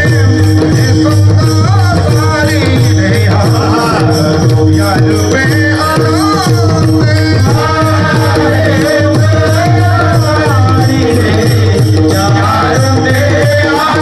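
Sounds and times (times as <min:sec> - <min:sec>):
person singing devotional melody: 0:00.0 - 0:14.0.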